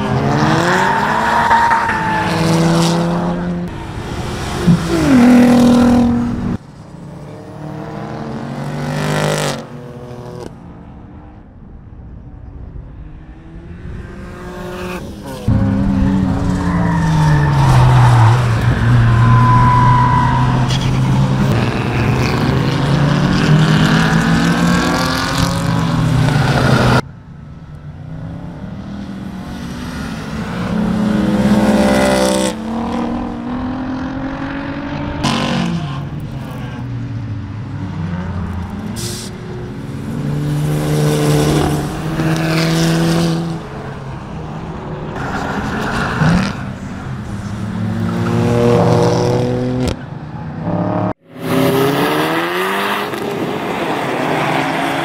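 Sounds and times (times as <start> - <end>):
race car engines revving past: 0.0 - 10.8, 13.0 - 27.0, 27.9 - 55.0.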